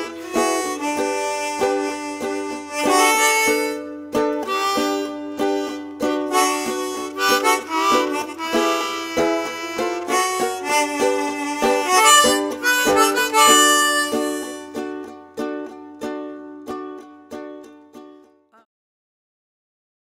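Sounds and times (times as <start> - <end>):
reedy melody with plucked strings: 0.0 - 18.6.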